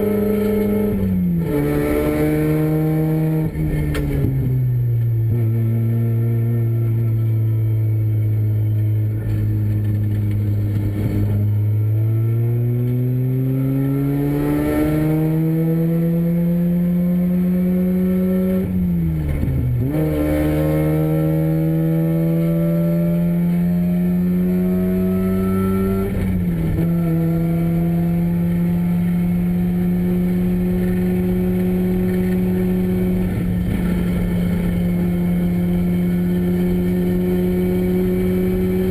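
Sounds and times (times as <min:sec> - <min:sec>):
race car rotary engine revving: 0:00.0 - 0:38.9.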